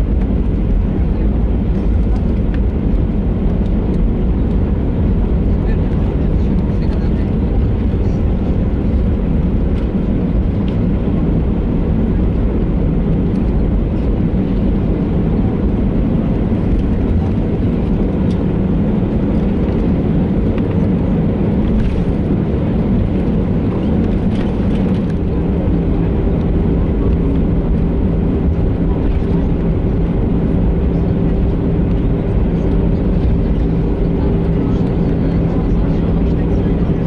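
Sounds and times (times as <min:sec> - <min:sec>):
jet engines idling in cabin: 0:00.0 - 0:37.0.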